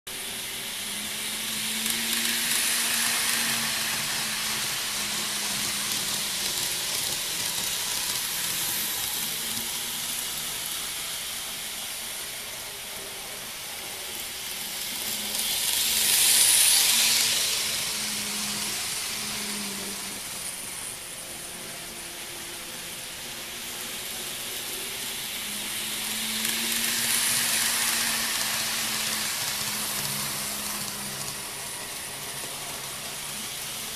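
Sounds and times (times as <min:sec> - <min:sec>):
model train wheels hissing on rail: 0:00.1 - 0:33.9.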